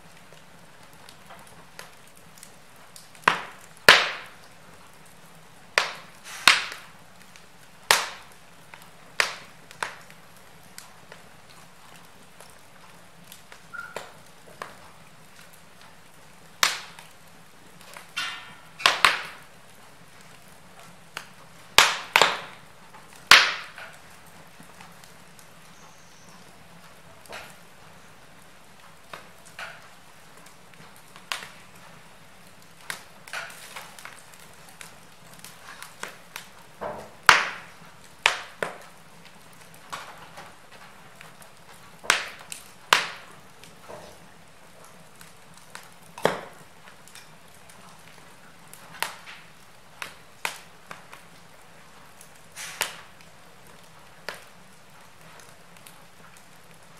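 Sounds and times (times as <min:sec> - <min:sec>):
logs crackling in a fireplace: 0:00.0 - 0:56.9
fire hiss: 0:00.1 - 0:11.5, 0:13.0 - 0:44.7, 0:48.5 - 0:55.4.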